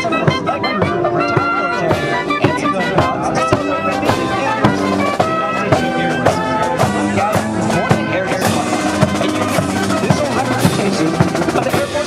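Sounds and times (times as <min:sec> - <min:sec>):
brass and sousaphones: 0:00.0 - 0:12.0
steady drum beat: 0:00.0 - 0:12.0.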